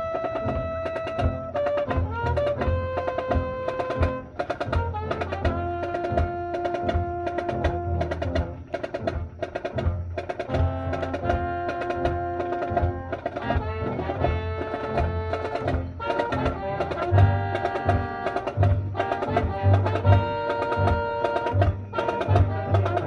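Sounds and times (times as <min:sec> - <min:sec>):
wind and brass chords: 0:00.0 - 0:23.0.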